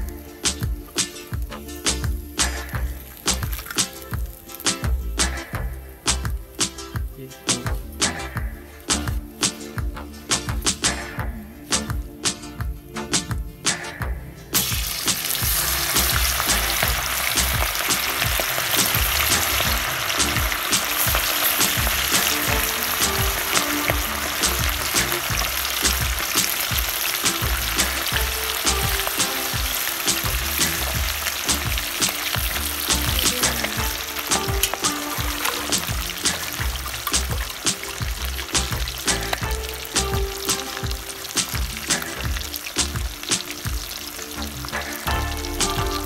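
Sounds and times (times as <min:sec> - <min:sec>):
chicken frying in hot oil: 0:00.0 - 0:06.2, 0:14.6 - 0:46.0.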